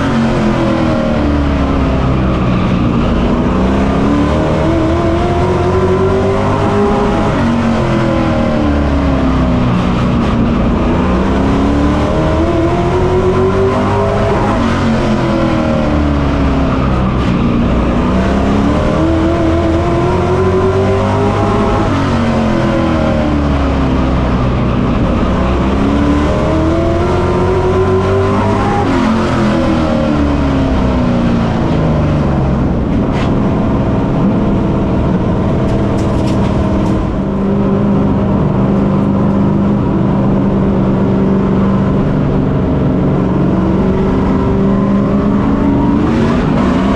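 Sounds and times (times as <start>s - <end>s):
race truck engine at full throttle: 0.0s - 46.9s.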